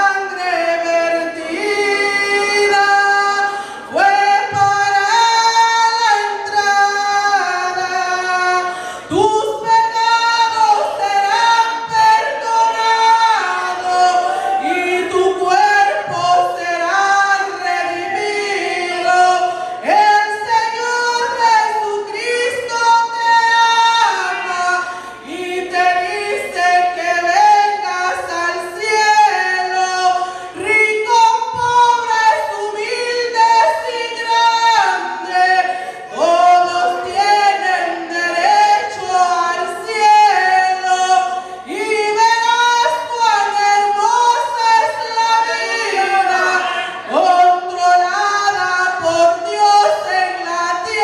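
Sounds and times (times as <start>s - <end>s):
woman singing into a microphone: 0.0s - 51.0s.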